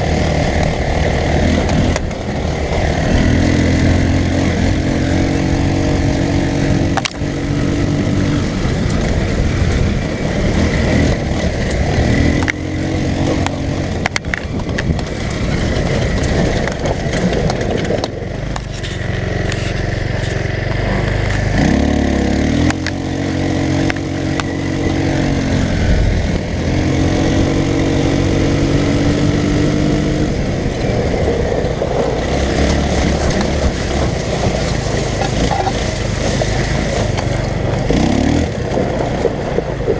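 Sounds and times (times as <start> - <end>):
go-kart engine revving: 0.0 - 39.9
rattling over rough ground: 0.0 - 39.9.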